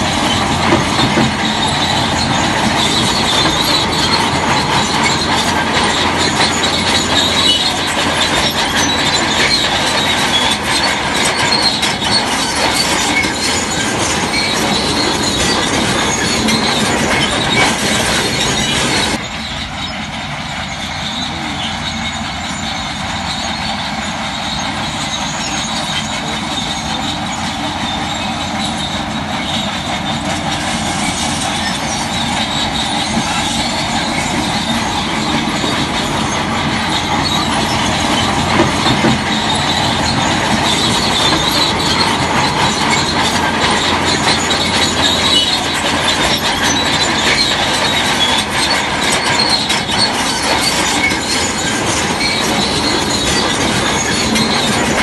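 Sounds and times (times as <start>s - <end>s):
bulldozer engine running: 0.0s - 55.0s
steel tracks clanking and squealing: 0.0s - 55.0s.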